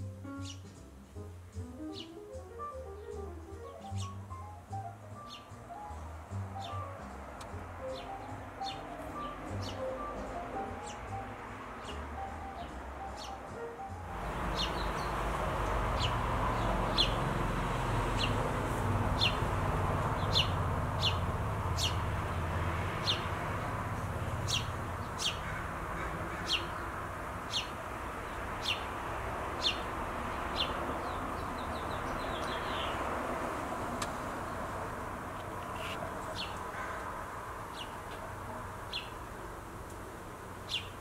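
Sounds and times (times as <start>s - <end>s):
sparrows chirping: 0.0s - 1.2s, 1.8s - 41.0s.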